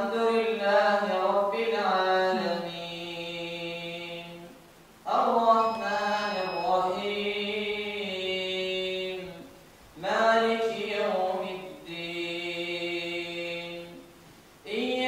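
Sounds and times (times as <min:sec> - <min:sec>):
man chanting recitation: 0:00.0 - 0:14.0, 0:14.6 - 0:15.0.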